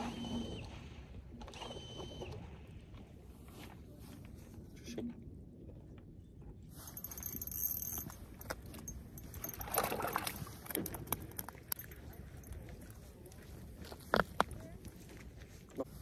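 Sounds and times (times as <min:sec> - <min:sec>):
low steady rumble: 0:02.5 - 0:16.0.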